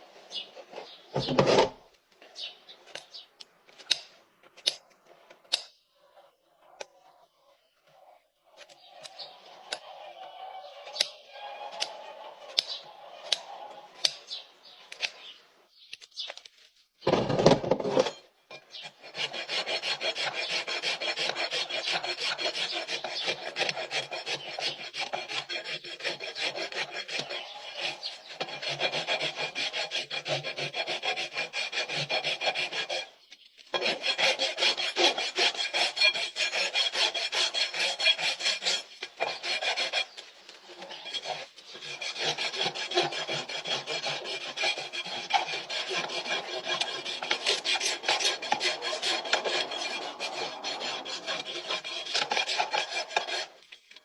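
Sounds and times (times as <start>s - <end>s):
rasp filing a hoof: 5.0s - 15.3s, 17.1s - 54.0s.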